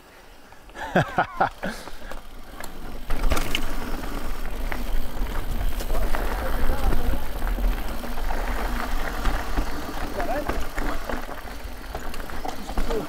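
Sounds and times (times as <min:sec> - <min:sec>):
bike tyre rumble and rattle: 0:00.2 - 0:13.0.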